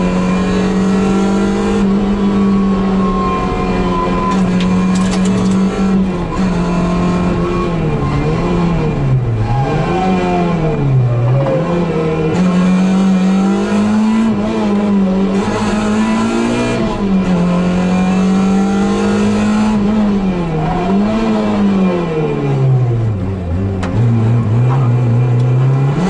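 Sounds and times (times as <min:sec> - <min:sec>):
car engine revving from inside cabin: 0:00.0 - 0:26.0.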